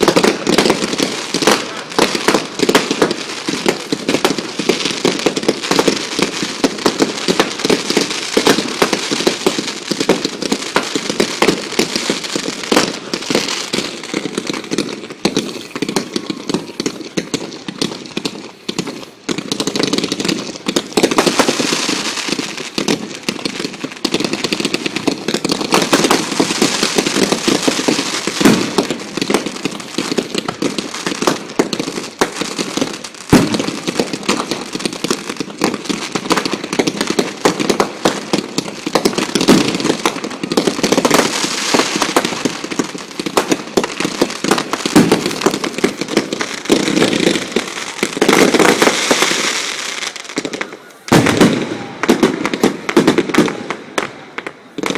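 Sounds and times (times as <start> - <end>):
firework bang: 0.0 - 49.8, 50.4 - 54.9
fireworks crackling and popping: 0.0 - 54.9.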